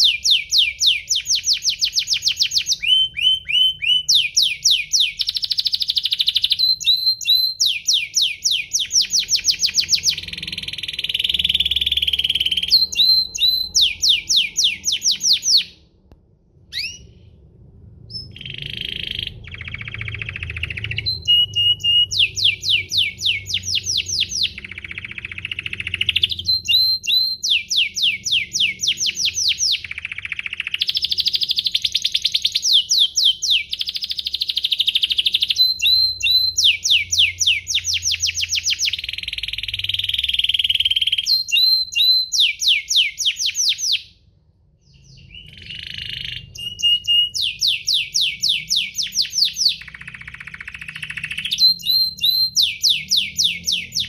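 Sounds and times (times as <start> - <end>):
canary singing: 0.0 - 15.9, 16.7 - 17.2, 18.0 - 44.2, 44.8 - 54.0.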